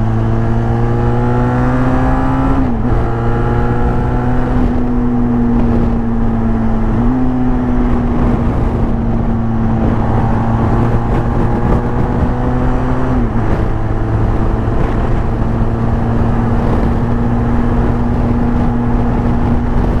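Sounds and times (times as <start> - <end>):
motorcycle engine cruising: 0.0 - 20.0
wind rush: 0.0 - 20.0.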